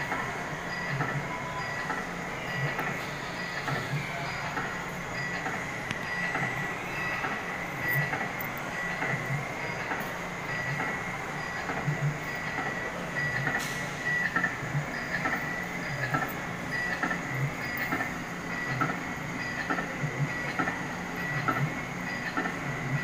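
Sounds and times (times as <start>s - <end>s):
kiddie ride mechanical whine: 0.0s - 23.0s.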